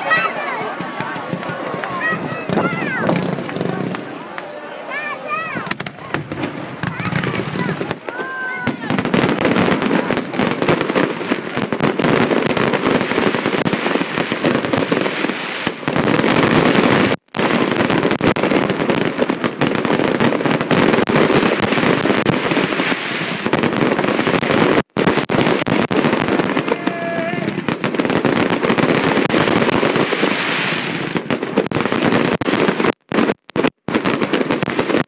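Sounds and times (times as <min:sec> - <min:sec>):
firework bangs and crackling: 0:00.0 - 0:35.0.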